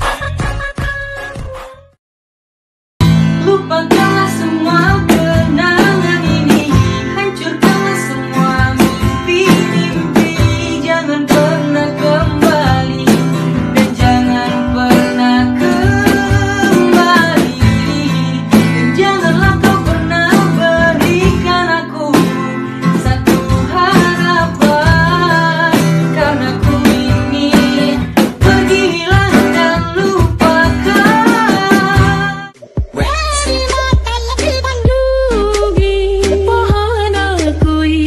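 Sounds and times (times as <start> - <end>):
strummed acoustic guitar: 3.0 - 37.6.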